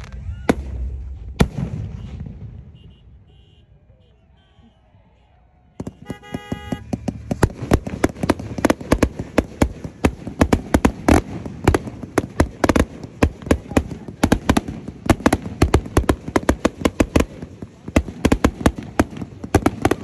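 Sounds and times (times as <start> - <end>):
fireworks cracking and popping: 0.0 - 2.9, 5.8 - 20.0.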